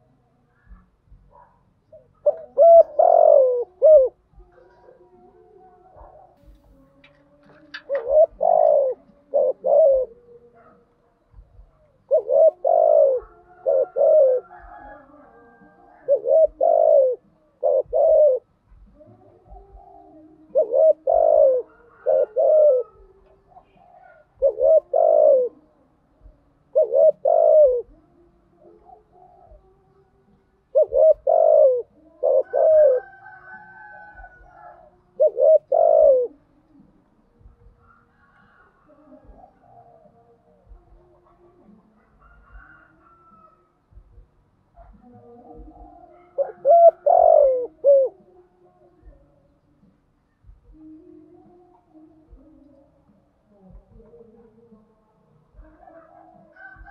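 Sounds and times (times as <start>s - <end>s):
dove cooing: 0.0s - 49.4s, 50.4s - 56.9s.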